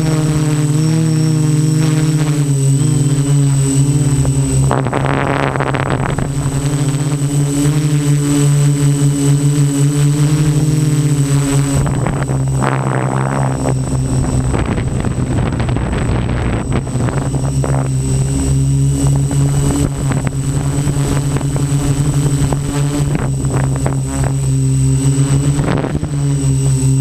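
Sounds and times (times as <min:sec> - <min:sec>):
quadcopter motors humming: 0:00.0 - 0:27.0.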